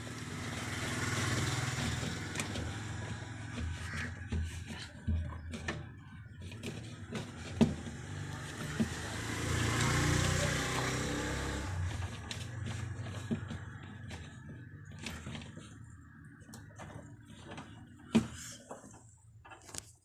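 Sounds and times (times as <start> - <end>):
motor vehicle passing by: 0.0 - 4.6, 6.8 - 18.5.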